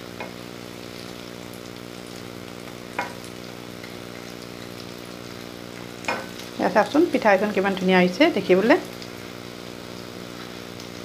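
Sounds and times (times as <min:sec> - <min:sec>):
patties sizzling in hot oil: 0:00.0 - 0:11.0.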